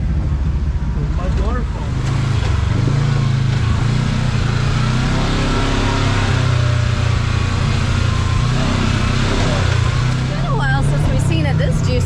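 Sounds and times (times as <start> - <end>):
engine running at low speed: 0.0 - 12.0.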